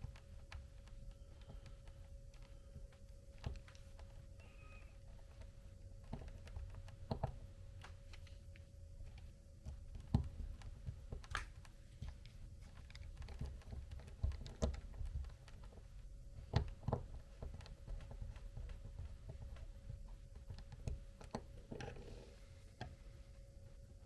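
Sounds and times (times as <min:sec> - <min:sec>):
faint steady hum: 0:00.0 - 0:24.0
small clicks and taps: 0:00.0 - 0:24.0.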